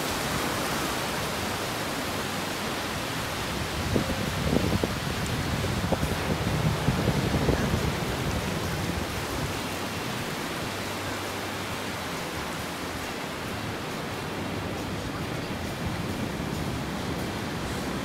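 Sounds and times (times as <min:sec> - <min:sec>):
ocean surf rushing: 0:00.0 - 0:18.0
wind: 0:00.0 - 0:18.0.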